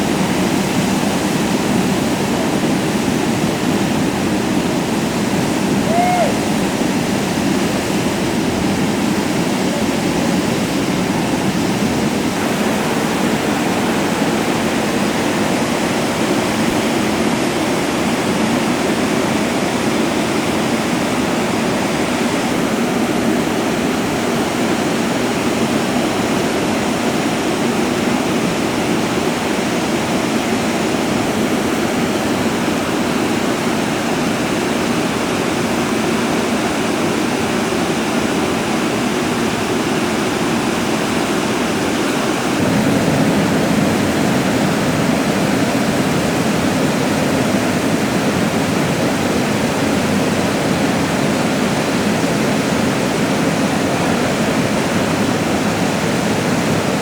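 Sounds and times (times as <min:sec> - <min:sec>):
water rushing over waterfall: 0:00.0 - 0:57.0.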